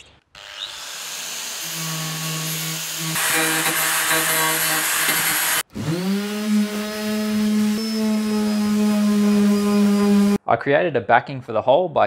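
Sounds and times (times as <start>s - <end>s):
angle grinder grinding fibreglass: 0.4s - 10.4s.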